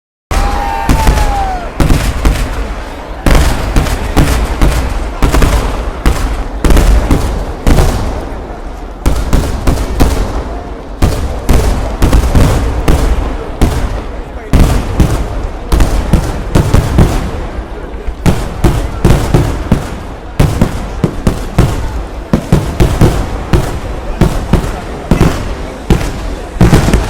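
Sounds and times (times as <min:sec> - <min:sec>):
fireworks bangs: 0:00.3 - 0:27.0.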